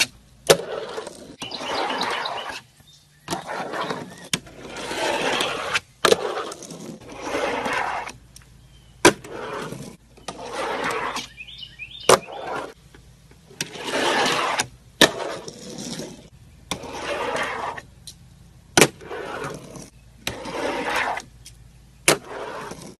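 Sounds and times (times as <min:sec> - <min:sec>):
fingerboard wheels rushing: 0:00.0 - 0:08.2, 0:09.0 - 0:12.8, 0:13.5 - 0:18.0, 0:18.8 - 0:21.4, 0:22.0 - 0:23.0.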